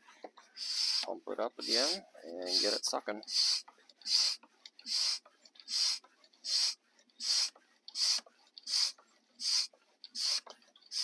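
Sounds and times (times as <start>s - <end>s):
hand pump hissing: 0.5s - 11.0s.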